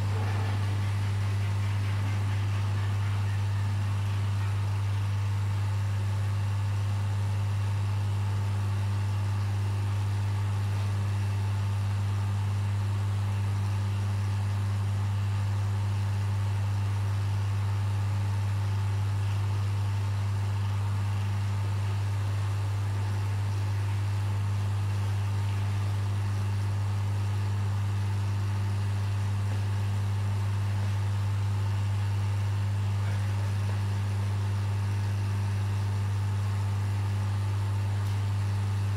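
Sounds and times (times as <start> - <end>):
aquarium pumps humming: 0.0 - 38.9.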